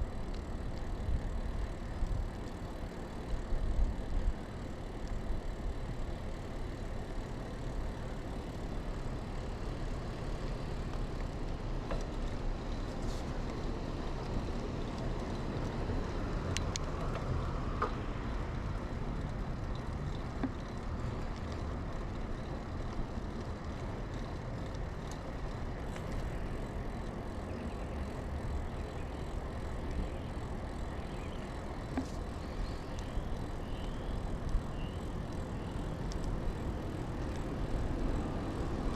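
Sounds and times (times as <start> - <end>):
bike clicks and rattles: 0.0 - 38.9.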